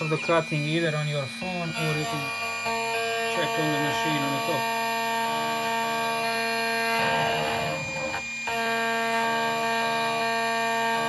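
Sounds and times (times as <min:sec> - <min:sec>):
grinding noise: 0:00.0 - 0:11.0
key cutting machine whine: 0:00.0 - 0:11.0.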